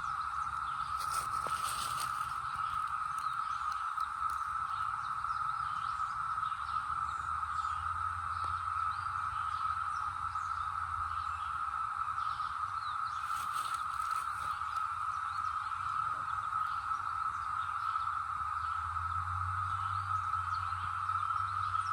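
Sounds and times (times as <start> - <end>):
cicadas droning: 0.0 - 21.9.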